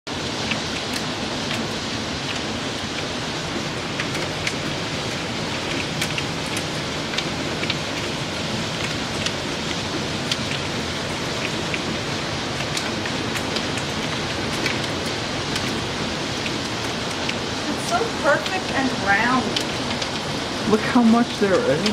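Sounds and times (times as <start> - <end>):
hailstones falling: 0.1 - 21.9.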